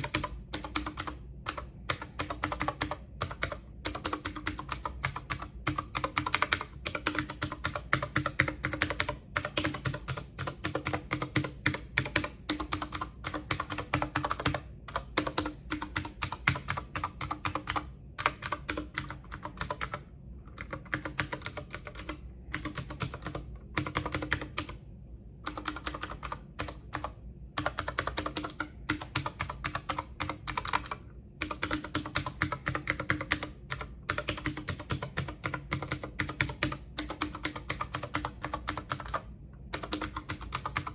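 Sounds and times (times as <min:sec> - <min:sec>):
faint low hum: 0:00.0 - 0:40.9
fast keyboard typing: 0:00.0 - 0:40.9.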